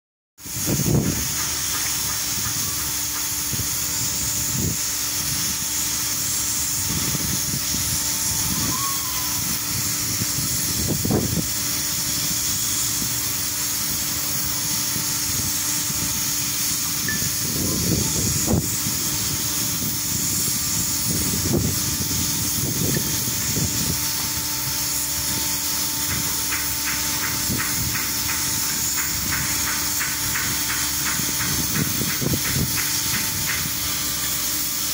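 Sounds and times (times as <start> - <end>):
mechanical hum: 0.4 - 34.9
steady loud hiss: 0.4 - 34.9.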